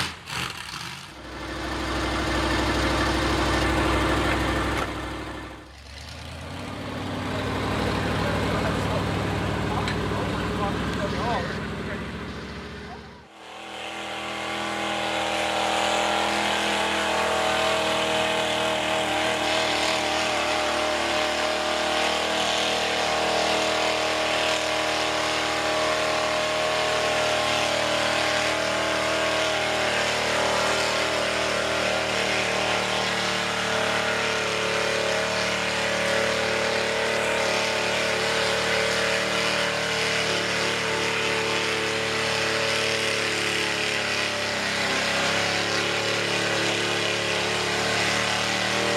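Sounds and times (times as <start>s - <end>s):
truck engine running hard: 0.0s - 48.9s.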